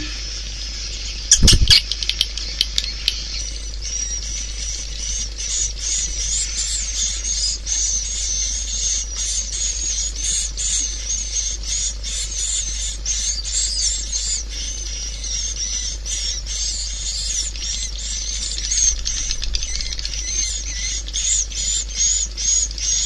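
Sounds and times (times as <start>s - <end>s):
birds twittering chirps: 0.0s - 23.0s
steady low hum: 0.0s - 23.0s.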